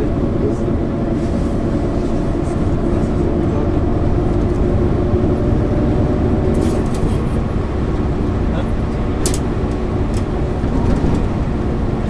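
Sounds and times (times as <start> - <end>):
bus engine drone: 0.0 - 12.0
low road rumble: 0.0 - 12.0.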